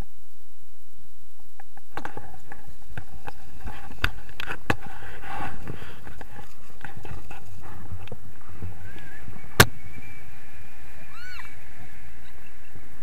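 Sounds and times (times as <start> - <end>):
wind rushing over microphone: 1.8 - 13.0.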